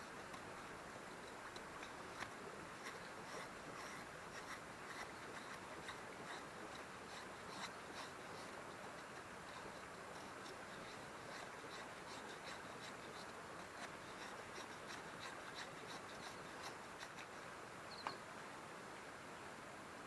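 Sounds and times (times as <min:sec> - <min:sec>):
faint small ticks: 0:00.0 - 0:18.2.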